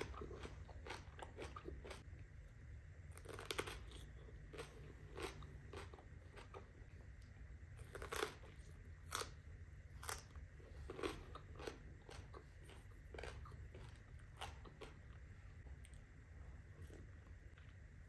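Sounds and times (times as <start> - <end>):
chewing crunchy cucumber: 0.0 - 2.2, 3.0 - 17.9.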